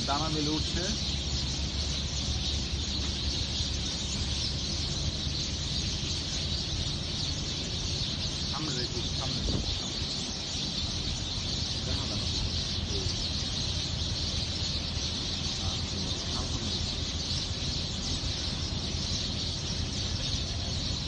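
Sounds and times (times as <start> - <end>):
flock of sparrows chirping: 0.0 - 21.0.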